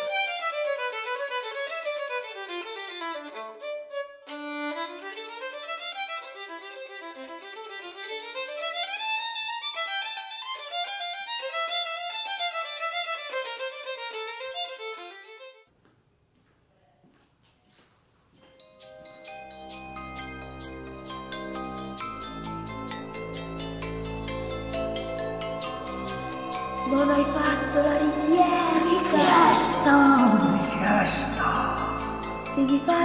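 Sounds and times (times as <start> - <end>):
solo violin fast melody: 0.0 - 15.6, 19.7 - 33.0.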